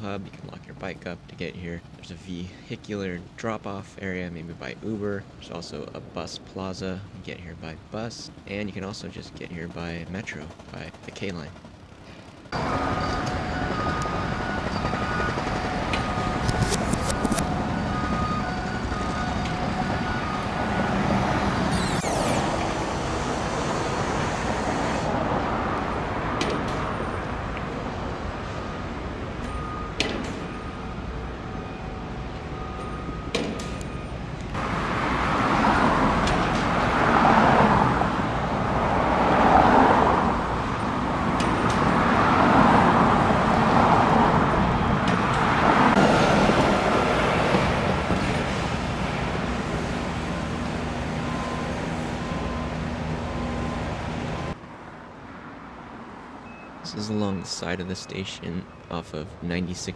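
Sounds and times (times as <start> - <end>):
street noise hum: 0.0 - 59.9
vehicles passing: 0.0 - 59.9.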